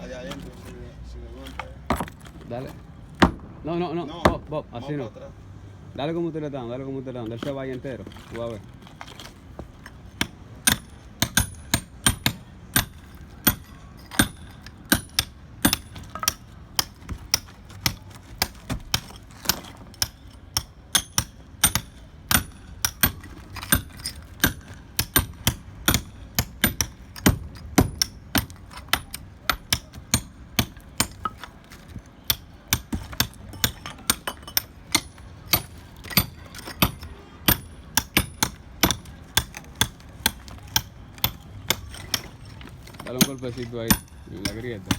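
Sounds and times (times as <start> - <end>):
hammer striking concrete: 1.5 - 2.3, 3.2 - 4.6, 9.1 - 44.9.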